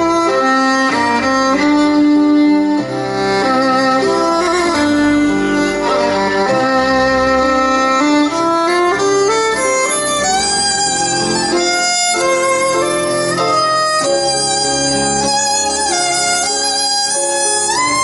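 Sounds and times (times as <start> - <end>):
violin slow melody: 0.0 - 18.0.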